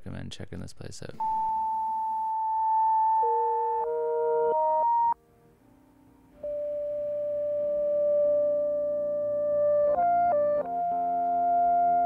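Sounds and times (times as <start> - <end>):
synthesizer held notes: 1.2 - 12.0.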